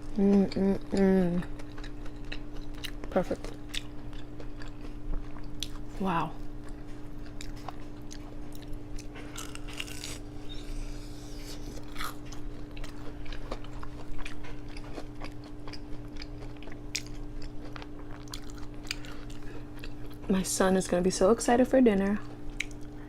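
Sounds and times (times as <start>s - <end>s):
chewing with crunches: 0.0s - 20.4s, 22.2s - 23.0s.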